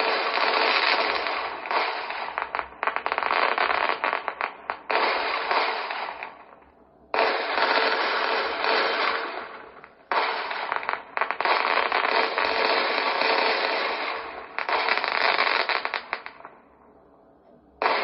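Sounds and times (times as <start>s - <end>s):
fireworks crackling and popping: 0.0s - 16.8s, 17.8s - 18.0s.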